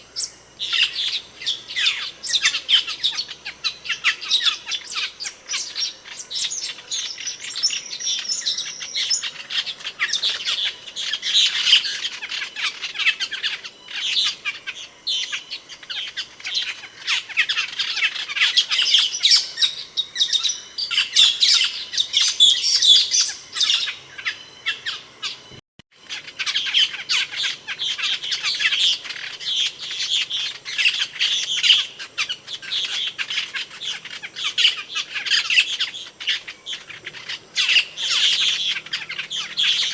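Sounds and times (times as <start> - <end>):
starlings chirping and squawking: 0.0 - 39.9.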